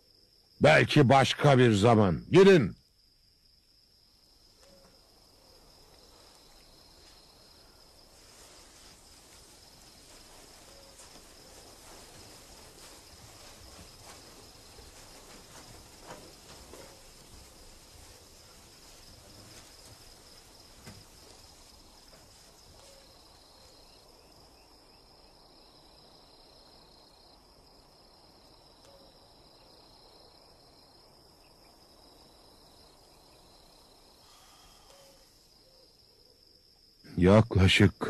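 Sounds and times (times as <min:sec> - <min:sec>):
crickets droning: 0:00.0 - 0:38.0.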